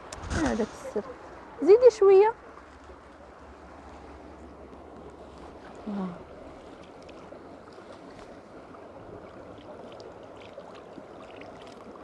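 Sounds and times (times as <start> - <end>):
spring water flowing: 0.0 - 12.0.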